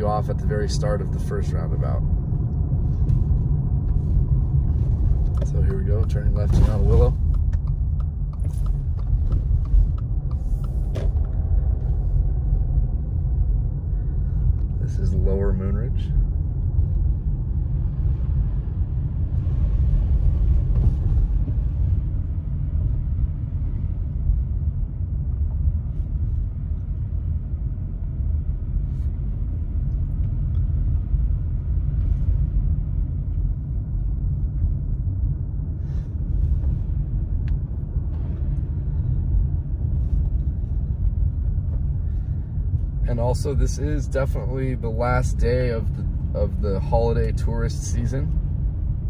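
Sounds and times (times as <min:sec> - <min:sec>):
car driving slowly low rumble: 0:00.0 - 0:49.0.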